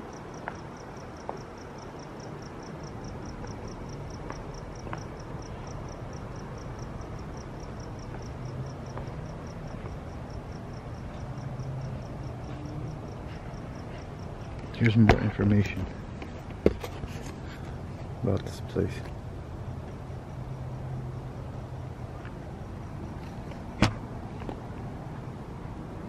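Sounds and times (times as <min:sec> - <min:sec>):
cricket chirping: 0:00.0 - 0:17.0, 0:17.8 - 0:25.4
low background hum: 0:00.0 - 0:26.0.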